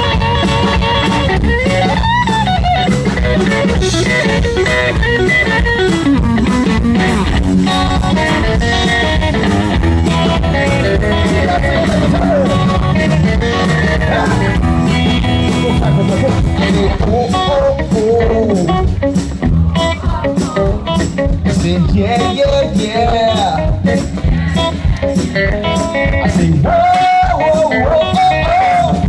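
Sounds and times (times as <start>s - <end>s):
lead guitar bending notes: 0.0s - 29.0s
live blues rock band: 0.0s - 29.0s
steady drum beat: 0.0s - 29.0s.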